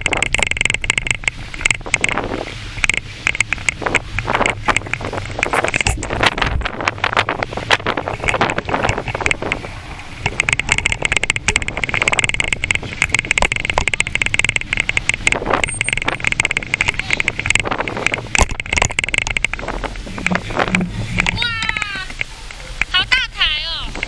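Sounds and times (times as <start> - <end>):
bicycle basket and frame rattling: 0.0 - 23.0
wind rumble on microphone: 0.0 - 24.0.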